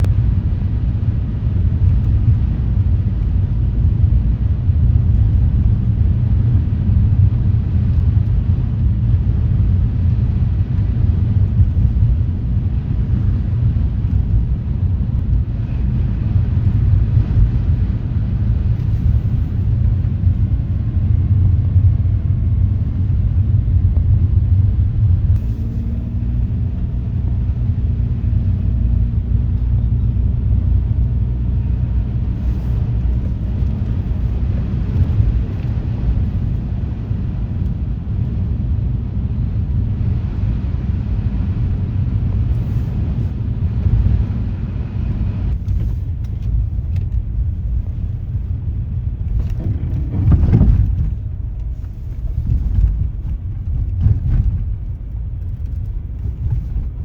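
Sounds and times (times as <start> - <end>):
car interior road and engine noise: 0.0 - 57.0.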